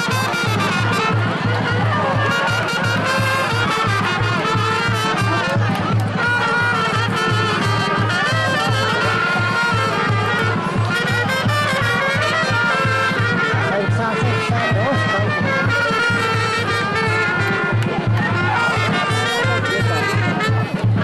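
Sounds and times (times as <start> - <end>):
trumpets playing melody: 0.0 - 21.0.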